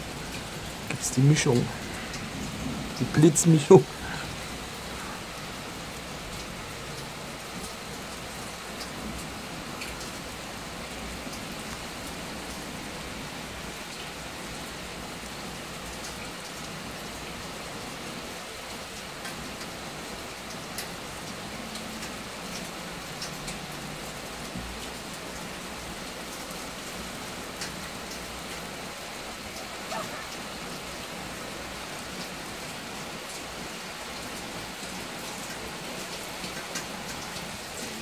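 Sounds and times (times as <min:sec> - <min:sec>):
steady rain pouring: 0:00.0 - 0:38.0.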